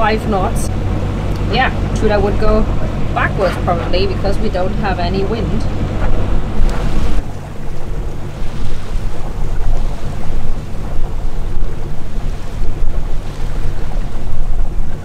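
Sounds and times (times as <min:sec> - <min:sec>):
steady low drone: 0:00.0 - 0:15.0
water rushing along a hull: 0:00.0 - 0:15.0
wind buffeting microphone: 0:00.0 - 0:15.0.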